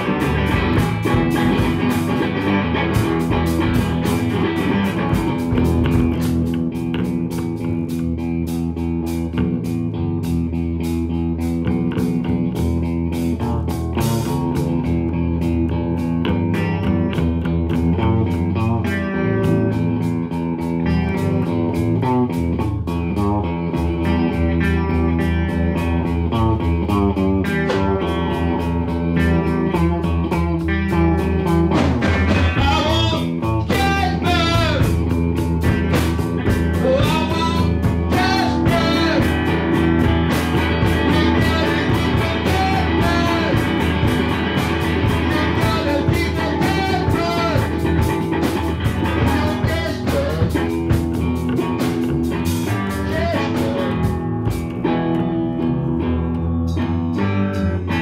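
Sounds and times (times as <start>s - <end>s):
live band music led by guitar: 0.0s - 58.0s.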